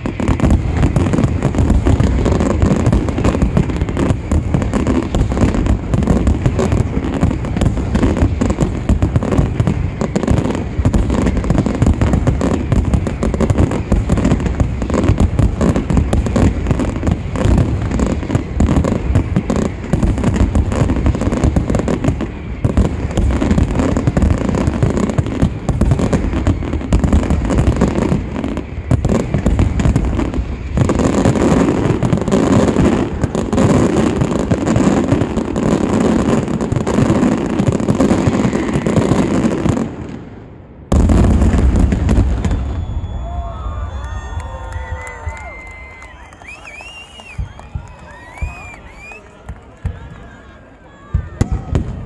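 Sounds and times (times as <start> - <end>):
firework bursts and crackle: 0.0 - 52.0.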